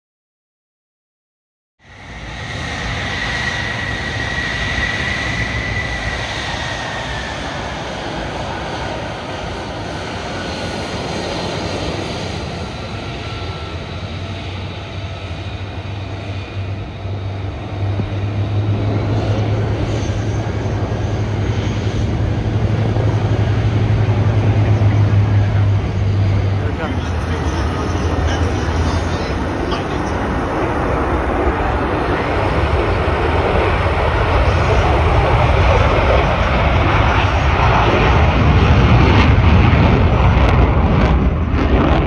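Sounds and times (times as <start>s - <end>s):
high jet whine: 1.8s - 42.0s
jet engine rush: 1.8s - 42.0s.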